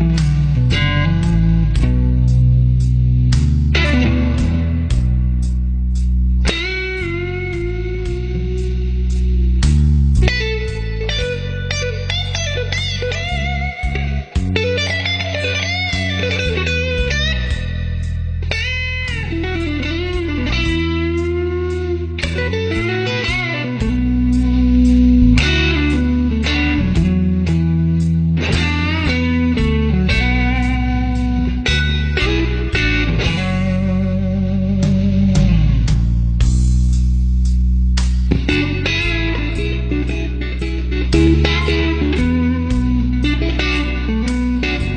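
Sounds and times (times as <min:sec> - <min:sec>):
electric guitar lead: 0:00.0 - 0:44.9
steady beat: 0:00.0 - 0:44.9
sustained bass notes: 0:00.0 - 0:44.9.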